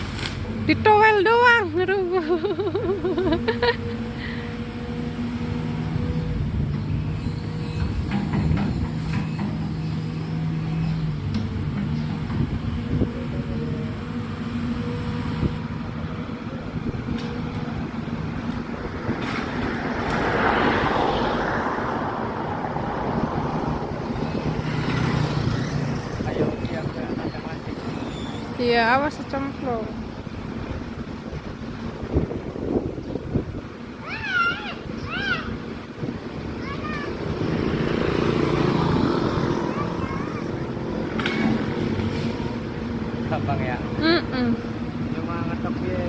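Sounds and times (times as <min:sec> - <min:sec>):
excavator engine running: 0:00.0 - 0:46.0.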